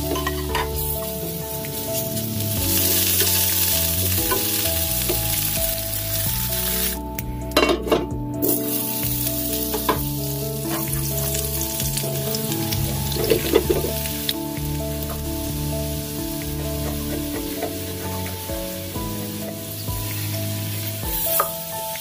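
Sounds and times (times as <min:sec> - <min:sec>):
food sizzling in a pan: 0:00.8 - 0:07.0, 0:08.4 - 0:22.0.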